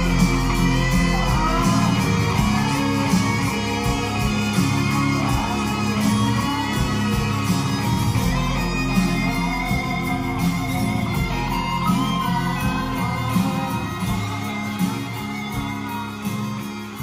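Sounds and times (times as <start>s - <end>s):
guitar music through speakers: 0.0s - 17.0s.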